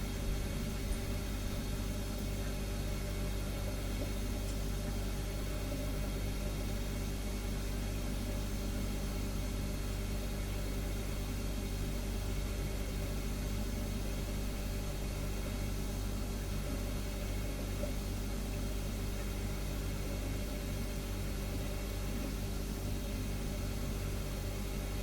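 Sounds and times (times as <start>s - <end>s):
refrigerator humming: 0.0s - 25.0s.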